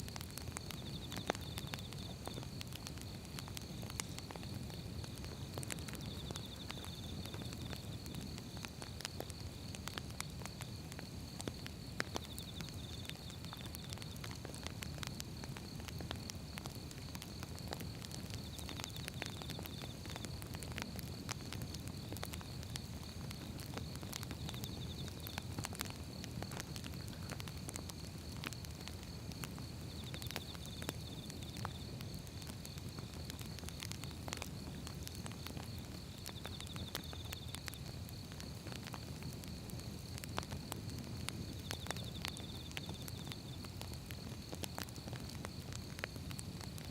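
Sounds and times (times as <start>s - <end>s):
firewood crackling and popping: 0.0s - 46.9s.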